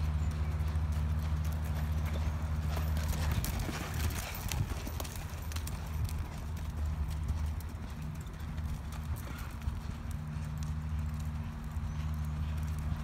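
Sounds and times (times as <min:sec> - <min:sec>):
horse hoofbeats on soft dirt: 0:00.0 - 0:13.0
steady low hum: 0:00.0 - 0:13.0.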